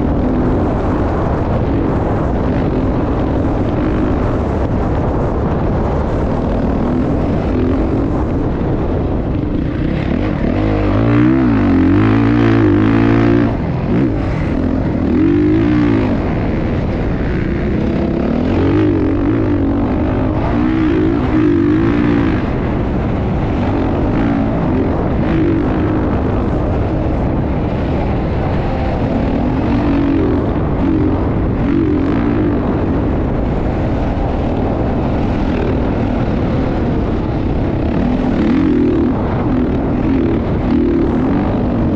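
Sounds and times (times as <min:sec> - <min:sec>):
constant rush of noise: 0:00.0 - 0:41.9
dirt bike engines revving: 0:00.0 - 0:41.9.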